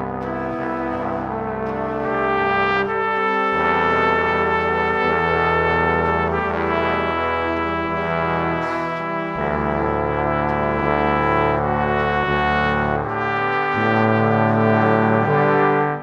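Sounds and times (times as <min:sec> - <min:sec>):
slow brass-like chords: 0:00.0 - 0:16.0.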